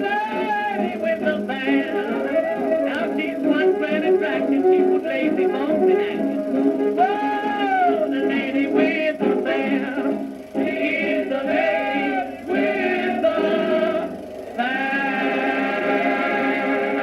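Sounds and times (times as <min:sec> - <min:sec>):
old jazz band music with singing: 0:00.0 - 0:17.0.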